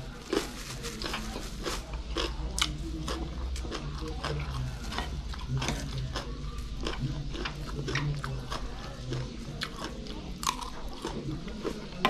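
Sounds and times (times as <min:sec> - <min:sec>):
chewing crunchy vegetables: 0:00.0 - 0:12.0.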